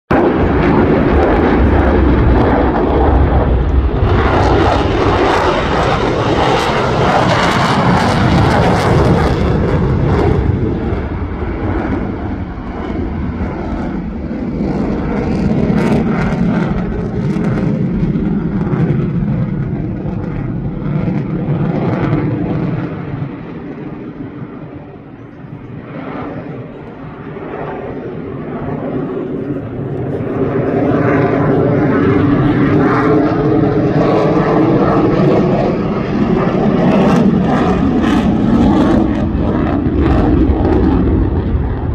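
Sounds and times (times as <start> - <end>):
jet roar: 0.1 - 41.9.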